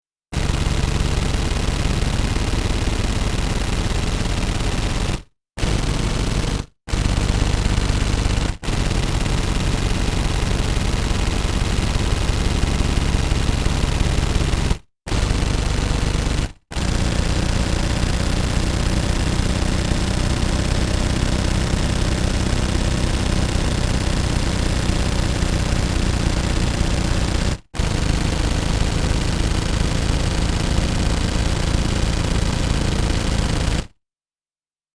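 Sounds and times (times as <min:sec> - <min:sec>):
automatic pistol firing bursts: 0:00.4 - 0:33.9.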